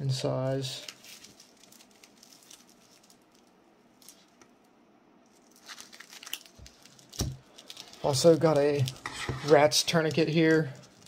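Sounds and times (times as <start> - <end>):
soft rustling handling noise: 0.1 - 4.6, 5.2 - 11.0.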